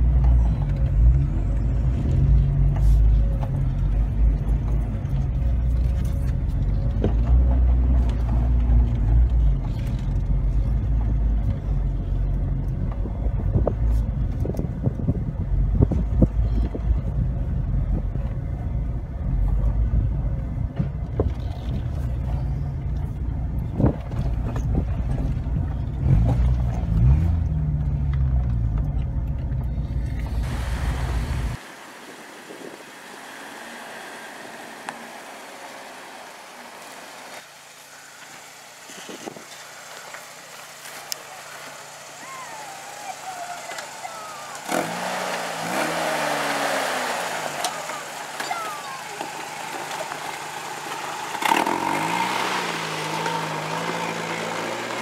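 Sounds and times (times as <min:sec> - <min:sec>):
vehicle engine and drivetrain rumble: 0:00.0 - 0:55.0.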